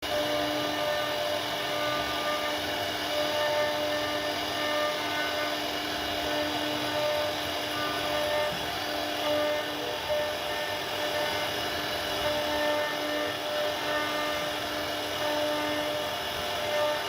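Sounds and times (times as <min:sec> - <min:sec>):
router cutting into wood: 0:00.0 - 0:17.0.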